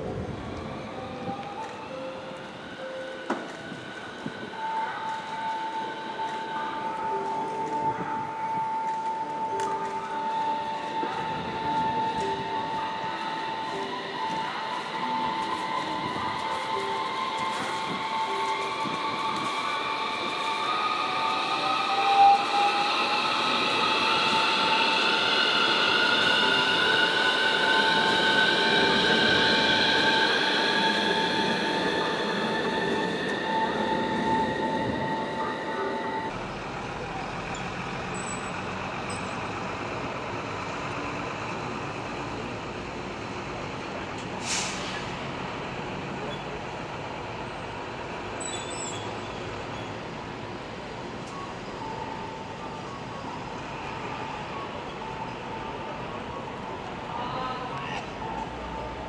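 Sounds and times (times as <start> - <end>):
city hum: 0.0 - 59.0
tram motors whining: 0.0 - 59.0.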